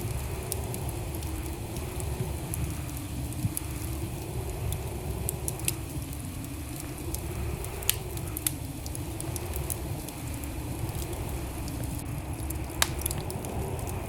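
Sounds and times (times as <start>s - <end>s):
burning logs crackling and popping: 0.0s - 14.0s
fire flames rumbling: 0.0s - 14.0s.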